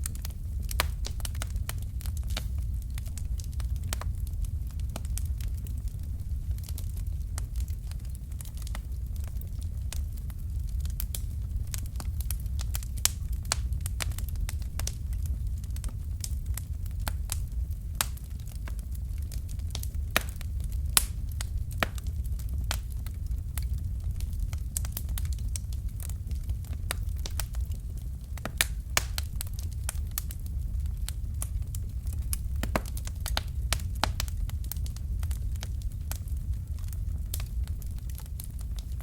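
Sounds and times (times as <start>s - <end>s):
fire crackling in a fireplace: 0.0s - 39.0s.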